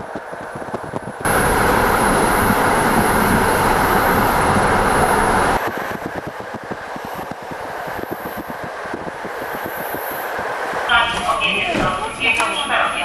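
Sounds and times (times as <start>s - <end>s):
train running noise: 0.0s - 13.0s
train rushing roar: 0.0s - 13.0s.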